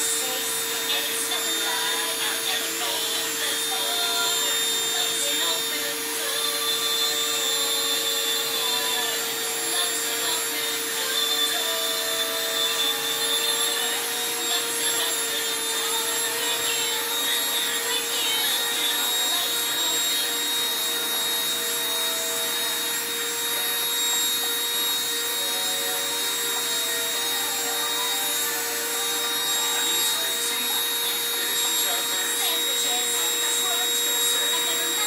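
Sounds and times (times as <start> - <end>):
rotary drill grinding glass: 0.0 - 35.0.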